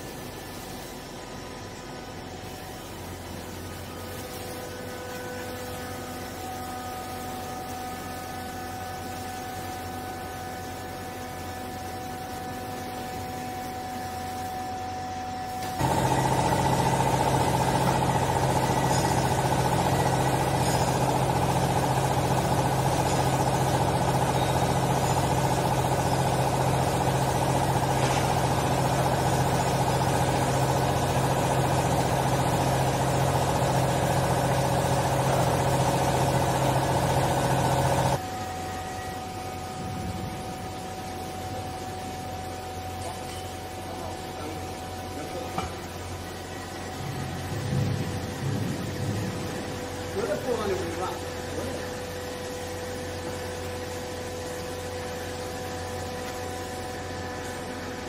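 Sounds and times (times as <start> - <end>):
hydraulic baler motor humming: 1.3 - 58.0.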